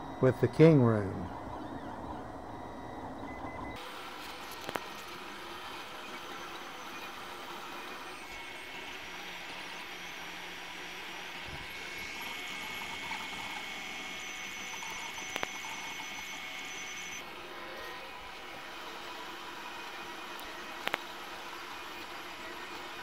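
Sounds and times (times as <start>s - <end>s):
high whine: 0.0s - 18.4s
fans and motors whirring: 0.0s - 23.0s.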